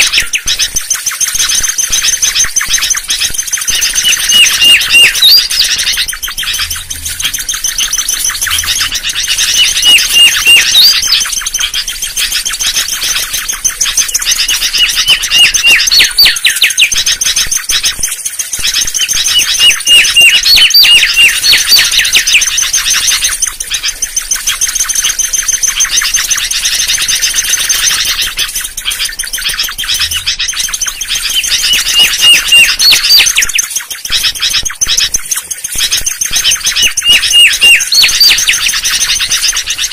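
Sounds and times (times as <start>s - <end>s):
bird whistling song: 0.0s - 39.9s
constant high twitter: 0.0s - 39.9s.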